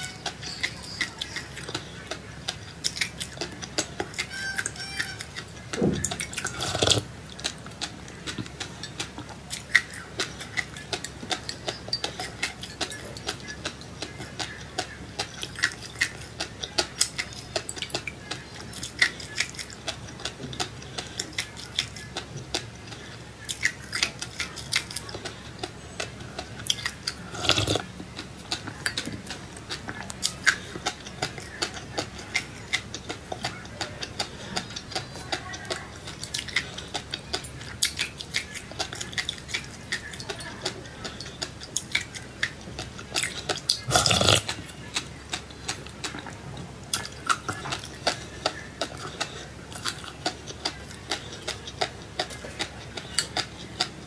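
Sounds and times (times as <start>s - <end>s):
chewing crunchy seeds: 0.0s - 54.0s.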